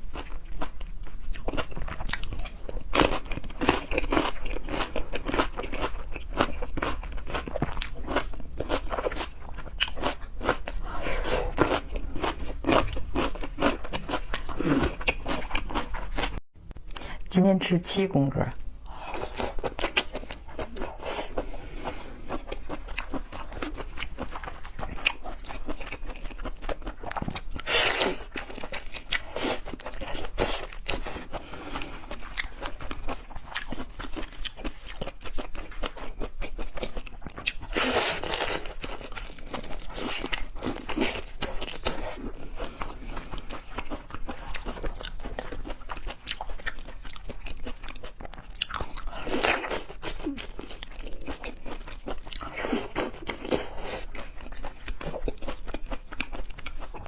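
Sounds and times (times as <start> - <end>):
person chewing and crunching food: 0.0 - 17.3, 18.5 - 57.0.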